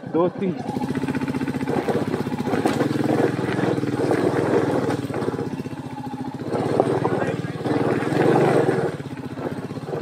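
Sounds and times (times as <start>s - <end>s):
motorcycle engine revving under load: 0.0s - 10.0s.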